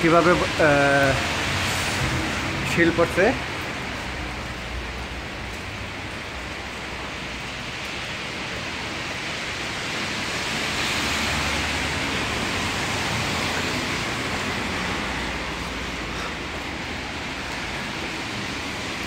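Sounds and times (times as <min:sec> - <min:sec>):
heavy rain and hail on cars: 0:00.0 - 0:19.0.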